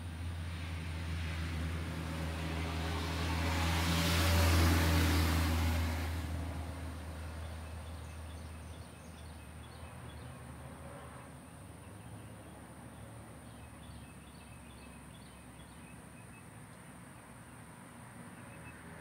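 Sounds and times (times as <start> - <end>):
passing vehicle engine: 0.0 - 16.1.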